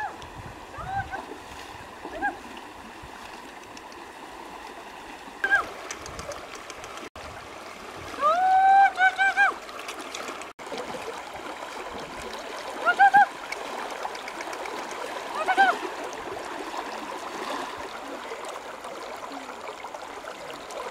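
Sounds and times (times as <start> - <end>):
river water flowing over stones: 0.0 - 20.9.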